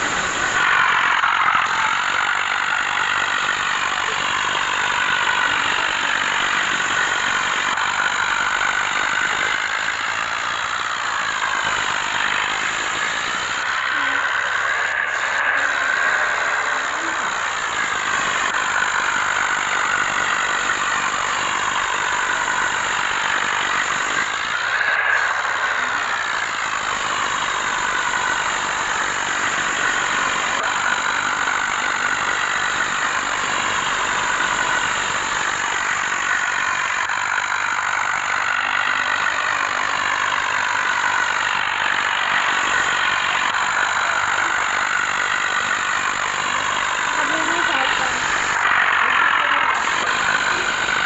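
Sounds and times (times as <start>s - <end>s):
high mechanical whine: 0.0s - 51.0s
tractor engine running: 0.0s - 51.0s.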